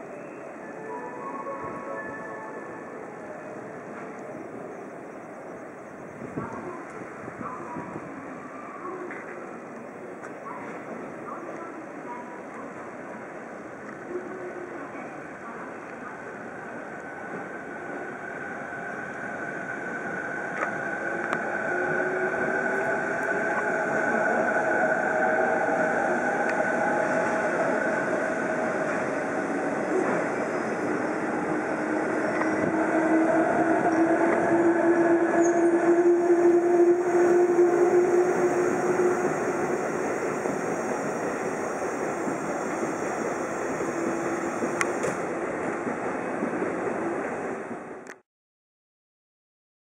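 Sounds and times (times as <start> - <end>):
diesel locomotive engine drone: 1.6 - 48.2.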